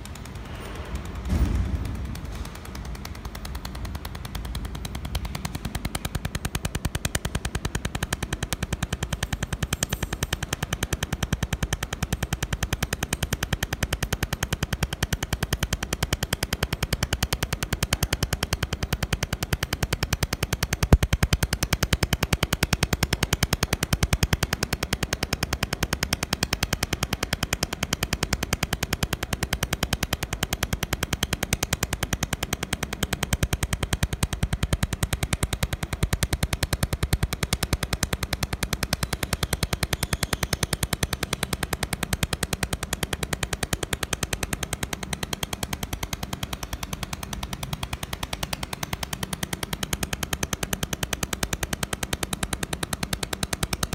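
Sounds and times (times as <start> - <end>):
laser welder pulses snapping: 0.0 - 53.9
low machine hum: 0.0 - 53.9.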